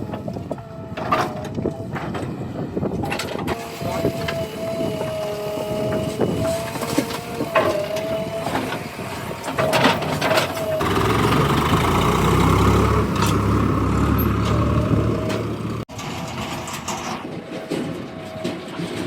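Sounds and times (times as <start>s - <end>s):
backhoe diesel engine: 0.0s - 19.0s.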